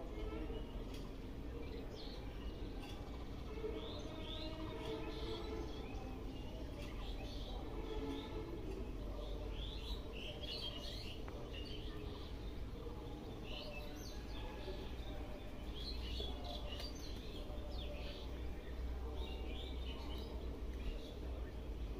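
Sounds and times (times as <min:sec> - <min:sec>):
small birds chirping: 0:00.6 - 0:21.9.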